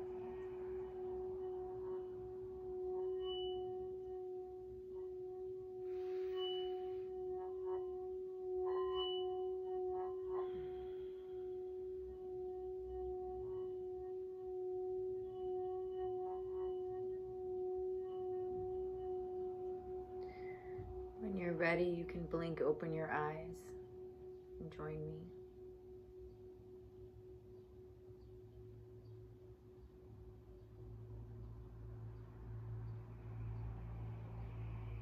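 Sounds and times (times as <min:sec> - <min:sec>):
singing bowl ringing: 0:00.0 - 0:35.0.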